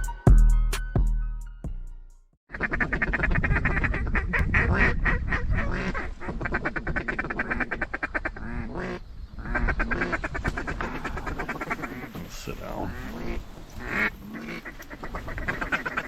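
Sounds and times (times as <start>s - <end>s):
duck quacks: 2.5s - 12.2s, 12.8s - 16.0s.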